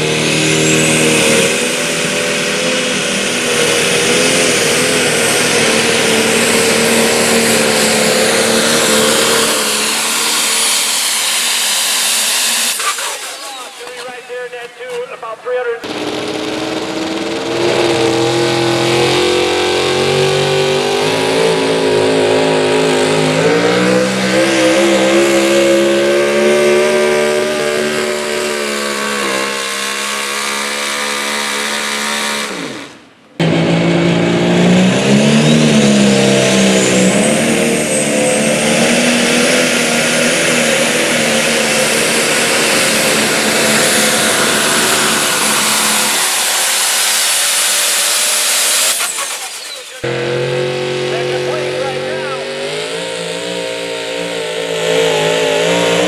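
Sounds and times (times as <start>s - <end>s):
diesel tractor engine under load: 0.0s - 56.0s
pulling truck engine at full throttle: 0.0s - 56.0s.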